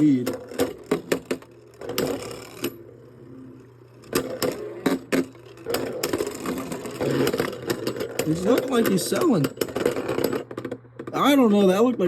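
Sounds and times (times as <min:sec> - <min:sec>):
spinning tops clacking: 0:00.0 - 0:11.7.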